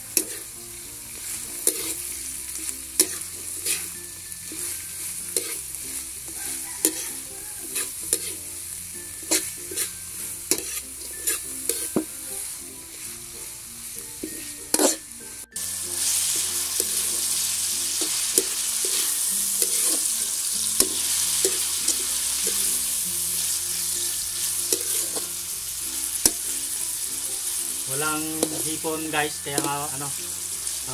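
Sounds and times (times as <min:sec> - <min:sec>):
oil sizzling: 0:00.0 - 0:30.9
metal spatula scraping a wok: 0:00.1 - 0:00.5, 0:01.2 - 0:13.4, 0:14.1 - 0:30.8.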